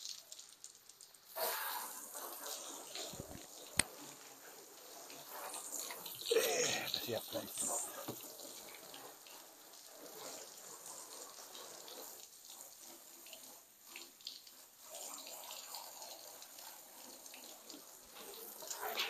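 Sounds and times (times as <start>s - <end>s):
hose water splashing on concrete: 0.0s - 19.0s.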